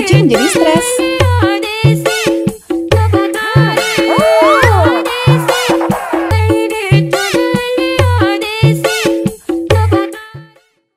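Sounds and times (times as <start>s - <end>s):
upbeat music with bass line: 0.0s - 8.8s.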